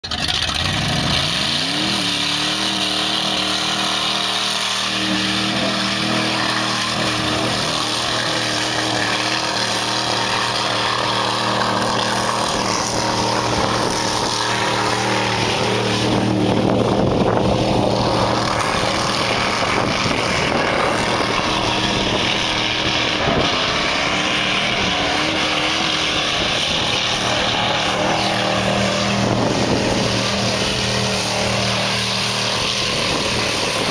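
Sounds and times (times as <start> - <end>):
pickup truck engine running: 0.0 - 33.9.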